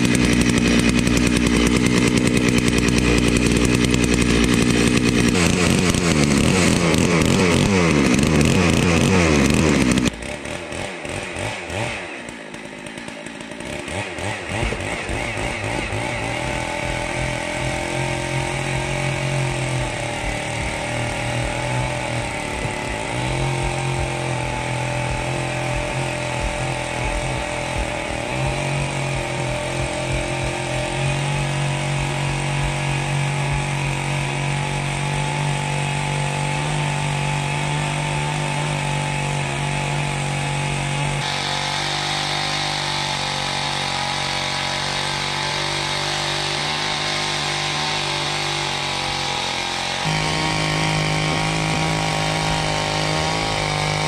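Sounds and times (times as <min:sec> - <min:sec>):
chainsaw engine running under load: 0:00.0 - 0:54.0.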